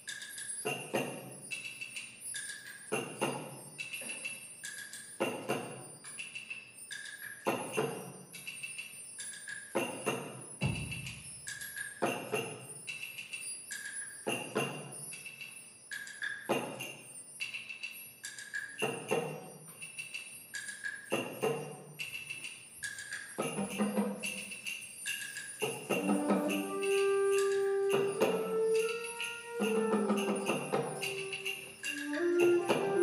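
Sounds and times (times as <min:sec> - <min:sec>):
bell-like percussion: 0:00.0 - 0:33.0.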